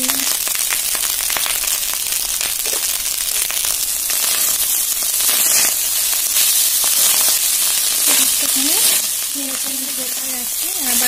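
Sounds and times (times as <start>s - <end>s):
rice sizzling in hot oil: 0.0s - 11.0s.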